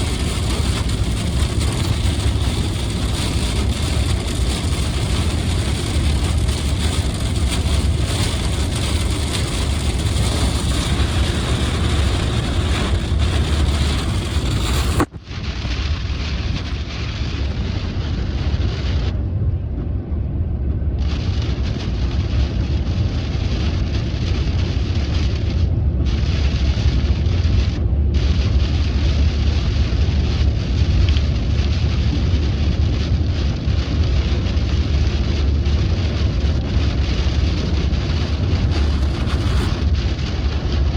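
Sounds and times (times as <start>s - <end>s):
rain and tyre spray hiss: 0.0s - 19.1s, 21.0s - 40.9s
road and engine rumble: 0.0s - 40.9s.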